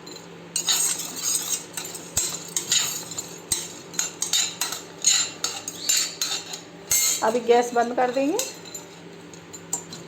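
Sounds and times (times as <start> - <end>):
spoon stirring and scraping in pan: 0.6 - 10.0.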